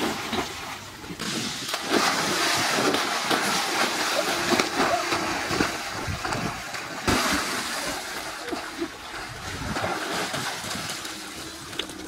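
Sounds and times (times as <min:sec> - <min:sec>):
water splashing in pool: 0:00.0 - 0:12.0.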